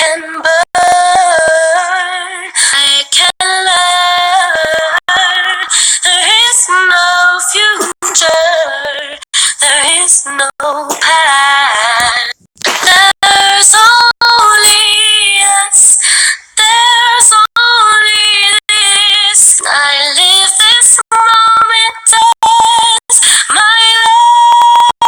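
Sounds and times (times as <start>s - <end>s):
woman singing unaccompanied: 0.0s - 16.0s, 16.6s - 25.0s.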